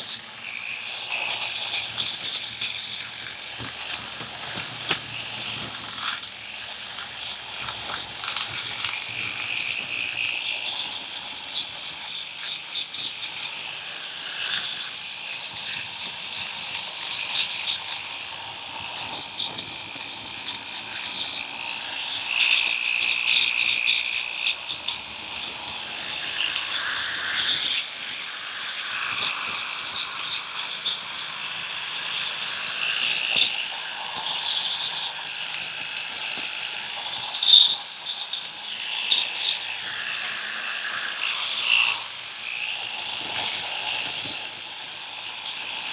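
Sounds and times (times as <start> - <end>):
sanding belt buzzing on wood: 0.0 - 45.9.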